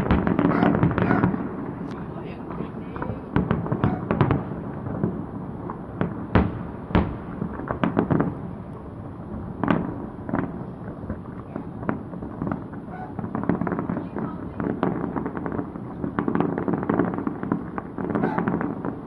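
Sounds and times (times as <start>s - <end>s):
fireworks bangs and booms: 0.0s - 19.0s.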